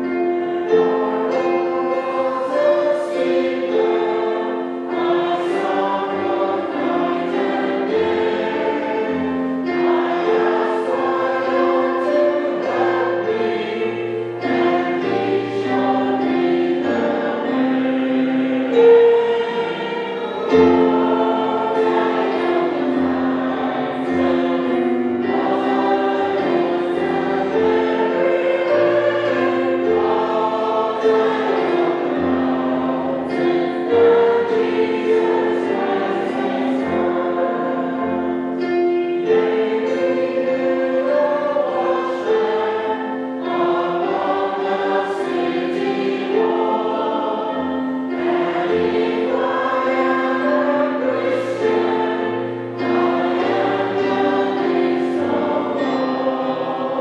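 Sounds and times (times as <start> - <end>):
choir singing a slow hymn: 0.0 - 57.0.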